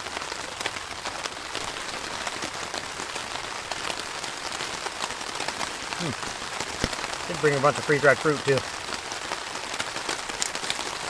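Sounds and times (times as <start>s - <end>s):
heavy rain patter: 0.0s - 11.0s.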